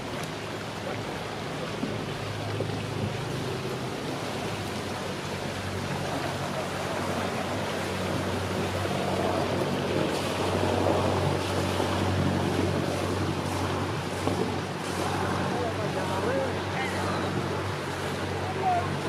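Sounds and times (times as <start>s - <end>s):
boat engine running at low revs: 0.0s - 19.0s
hiss of wind and water: 0.0s - 19.0s.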